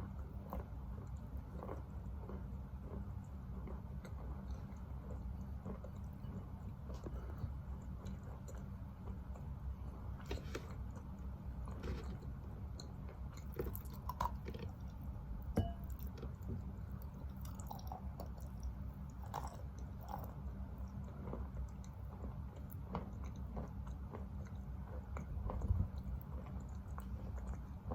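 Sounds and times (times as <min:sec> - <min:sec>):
chewing wet chalk: 0:00.0 - 0:27.9.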